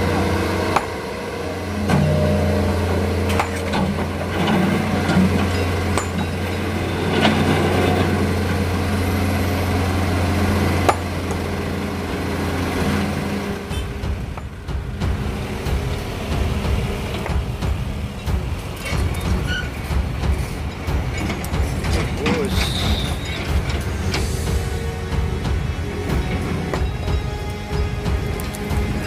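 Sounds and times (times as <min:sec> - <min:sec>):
heavy diesel engine humming: 0:00.0 - 0:29.0
sharp knocks and clanks: 0:00.0 - 0:29.0.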